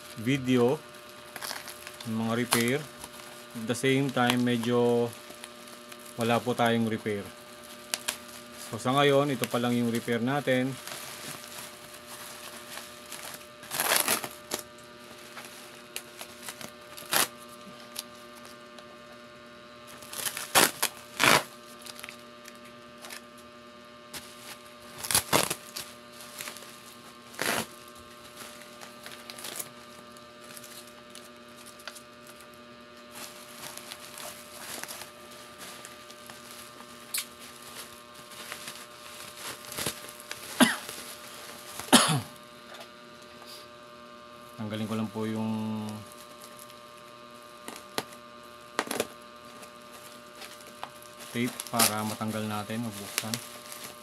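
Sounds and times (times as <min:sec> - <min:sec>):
steady electrical hum: 0:00.0 - 0:54.0.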